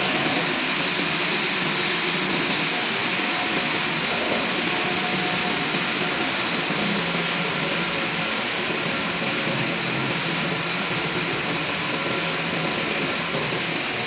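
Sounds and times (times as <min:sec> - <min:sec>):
machinery whirring and humming: 0:00.0 - 0:14.0.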